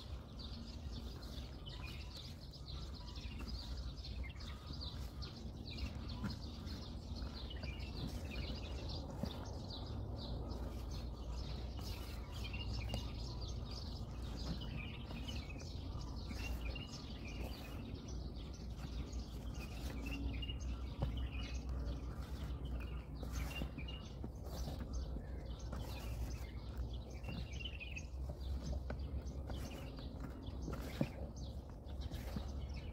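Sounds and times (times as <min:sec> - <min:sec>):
low outdoor rumble: 0:00.0 - 0:32.9
small birds chirping: 0:00.0 - 0:32.9.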